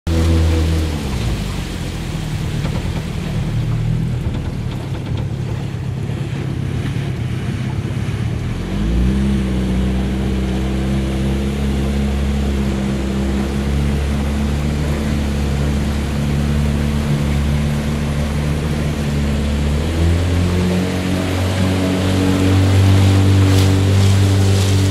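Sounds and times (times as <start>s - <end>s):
motorboat engine running: 0.0s - 24.9s
water rushing past: 0.1s - 24.9s.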